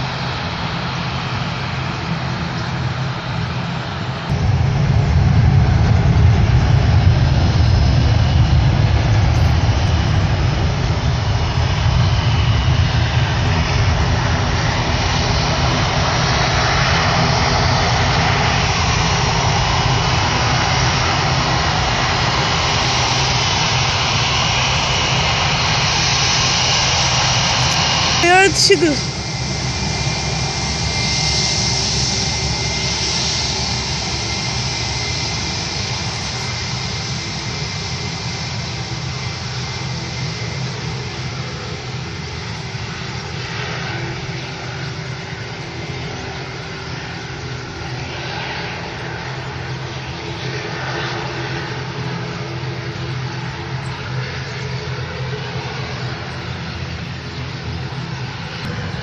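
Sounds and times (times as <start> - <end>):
jet airliner engines running: 0.0 - 59.0.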